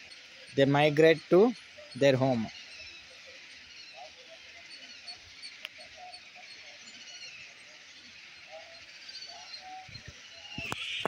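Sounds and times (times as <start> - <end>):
birds chirping in colony: 0.0 - 11.0.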